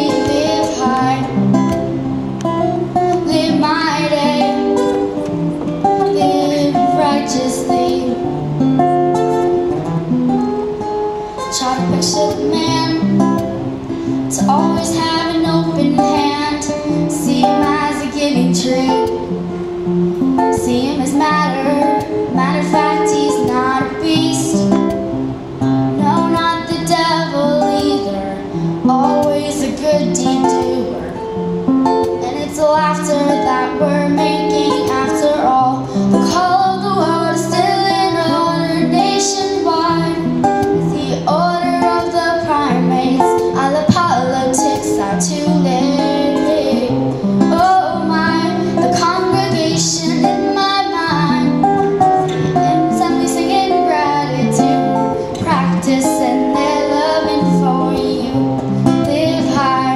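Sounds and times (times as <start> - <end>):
boy singing: 0.0 - 1.4, 2.8 - 8.3, 11.4 - 13.5, 14.3 - 19.3, 20.4 - 24.9, 25.9 - 31.2, 32.0 - 59.9
acoustic guitar: 0.0 - 59.9.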